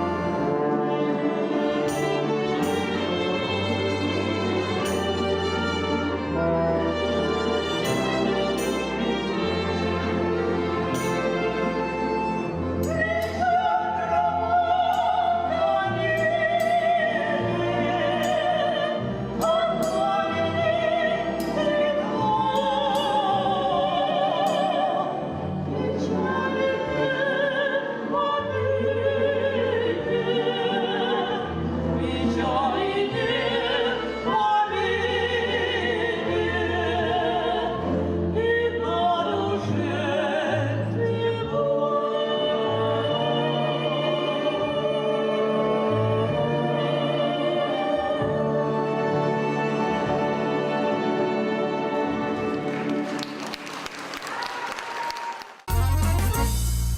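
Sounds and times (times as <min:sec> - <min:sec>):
instrumental accompaniment: 0:00.0 - 0:54.1, 0:55.6 - 0:56.9.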